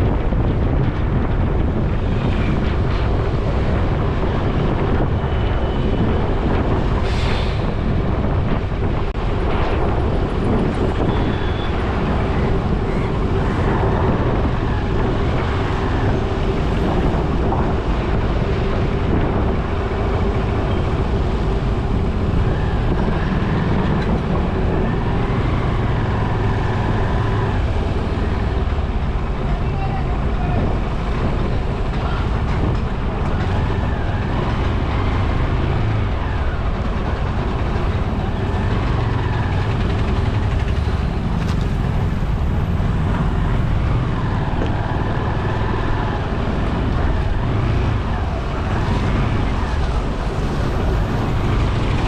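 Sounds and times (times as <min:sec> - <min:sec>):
road rumble: 0:00.0 - 0:52.0
wind buffeting microphone: 0:00.0 - 0:52.0.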